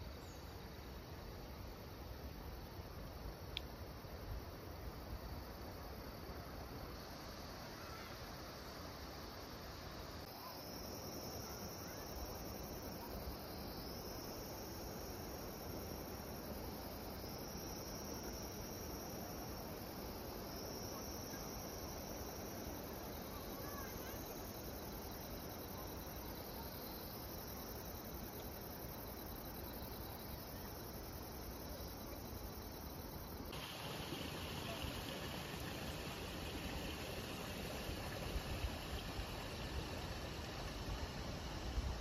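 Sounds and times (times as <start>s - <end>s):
field insects chirring: 0.0s - 42.0s
steady hiss: 0.0s - 42.0s.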